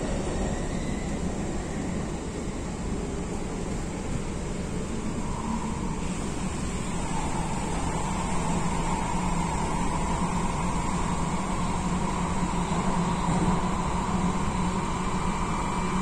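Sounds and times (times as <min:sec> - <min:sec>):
train drive hum: 0:00.0 - 0:16.0
train wheels rumbling on rail: 0:00.0 - 0:16.0.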